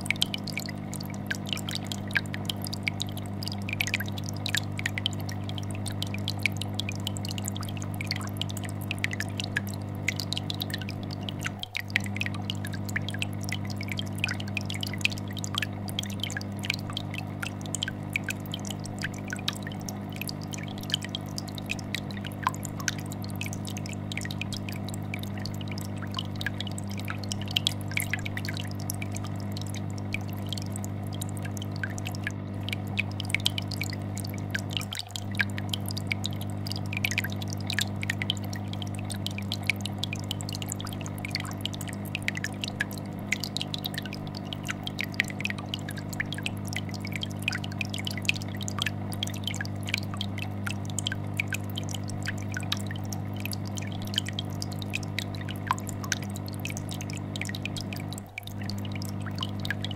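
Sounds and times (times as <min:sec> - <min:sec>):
aquarium air bubbler bubbling: 0:00.0 - 0:59.9
fish tank filter humming: 0:00.0 - 0:59.9.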